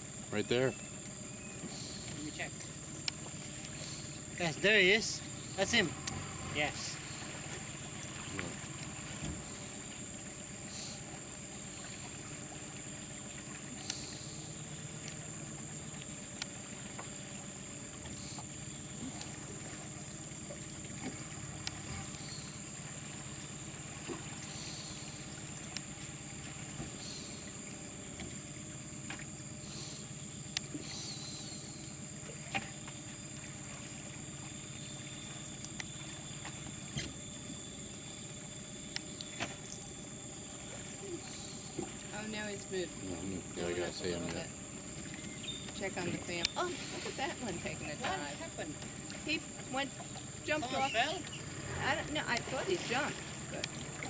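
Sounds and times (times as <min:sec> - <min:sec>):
low even hum: 0:00.0 - 0:54.0
high-pitched insect drone: 0:00.1 - 0:20.9, 0:22.0 - 0:32.4, 0:33.0 - 0:54.0
faint chirps: 0:00.3 - 0:15.2, 0:21.6 - 0:23.8, 0:24.4 - 0:28.2, 0:29.5 - 0:33.4, 0:34.3 - 0:54.0.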